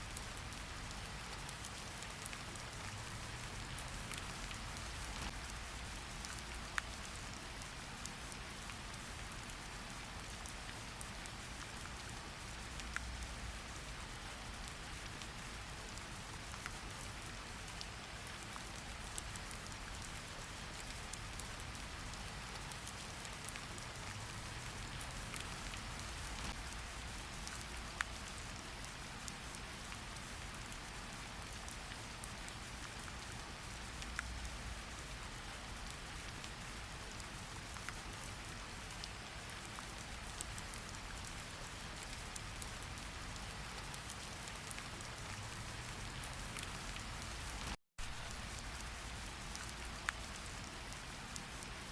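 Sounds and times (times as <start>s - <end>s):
rain hiss: 0.0s - 51.9s
raindrop ticks: 0.1s - 7.2s, 9.6s - 13.5s, 14.3s - 51.7s.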